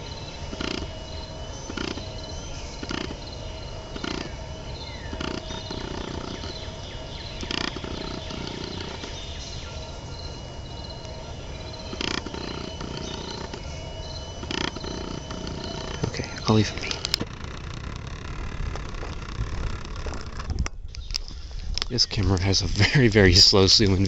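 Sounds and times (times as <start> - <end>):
zoom motor buzzing: 0.0 - 20.6
camera autofocus whirring and clicking: 0.0 - 24.0.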